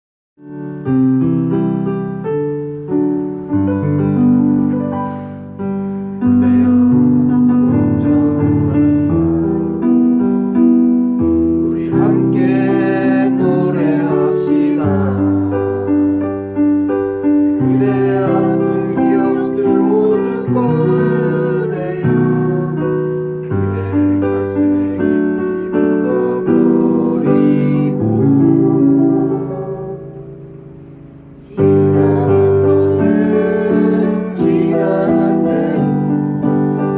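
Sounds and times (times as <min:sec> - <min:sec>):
electric piano music: 0:00.4 - 0:36.9.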